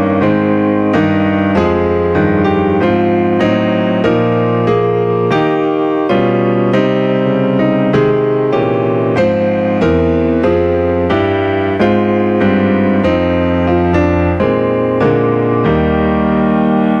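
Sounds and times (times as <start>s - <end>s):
sustained keyboard chords: 0.0s - 17.0s.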